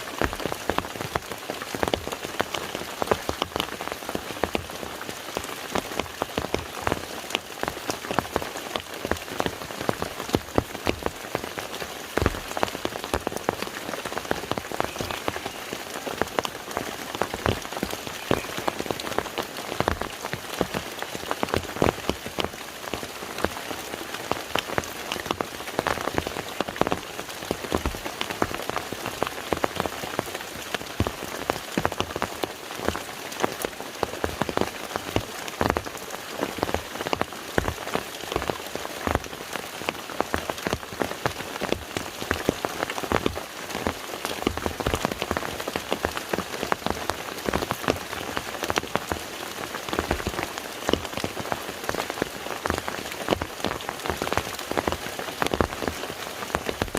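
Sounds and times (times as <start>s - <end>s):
rain hissing on lake: 0.0s - 56.9s.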